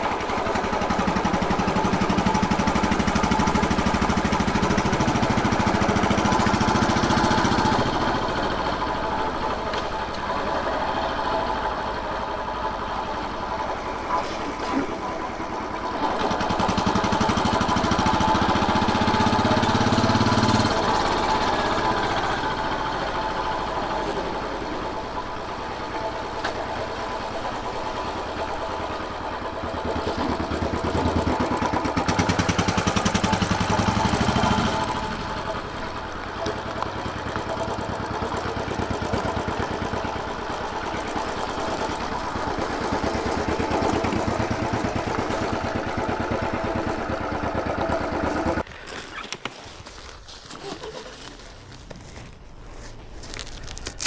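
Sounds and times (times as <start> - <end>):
motorcycle engine running: 0.0 - 48.7.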